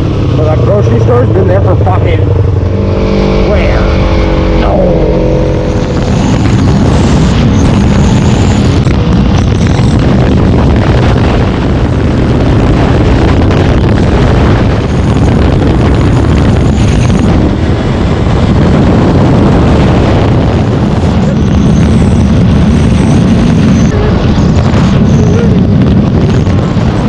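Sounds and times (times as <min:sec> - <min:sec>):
motorcycle engine running: 0:00.0 - 0:27.0
wind noise on microphone: 0:00.0 - 0:27.0.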